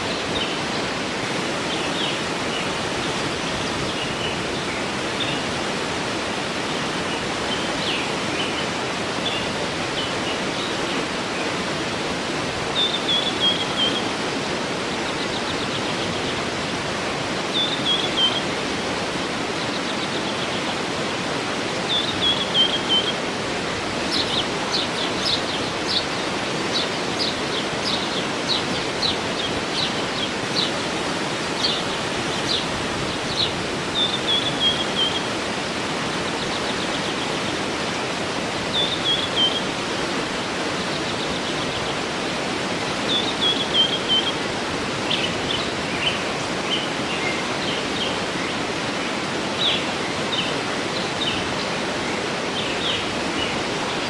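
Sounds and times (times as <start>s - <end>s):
birds singing: 0.0s - 54.0s
waterfall rushing: 0.0s - 54.0s.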